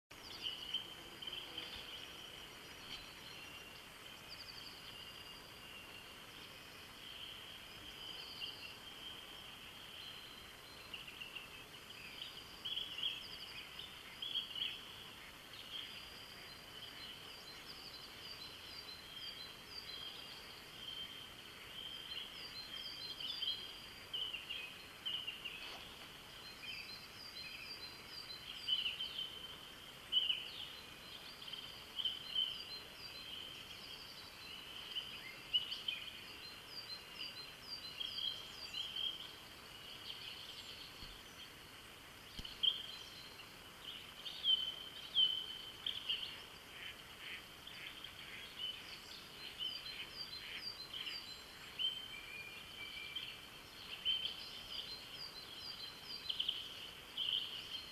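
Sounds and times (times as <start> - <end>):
distant birdsong: 0.1 - 57.9
songbirds chirping and trilling: 0.1 - 57.9.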